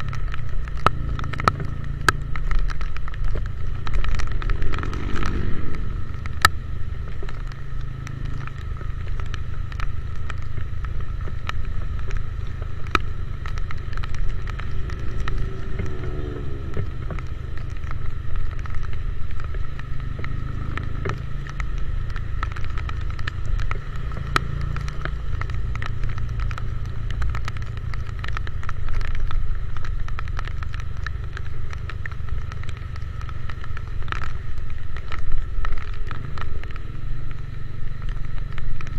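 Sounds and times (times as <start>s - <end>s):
motorcycle engine running: 0.0s - 38.9s
raindrops ticking on camera: 0.0s - 38.9s.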